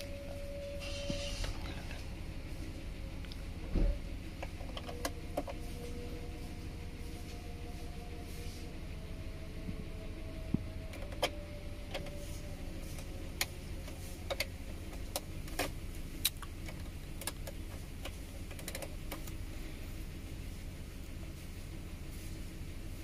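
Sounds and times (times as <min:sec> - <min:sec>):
car idling hum: 0:00.0 - 0:23.0.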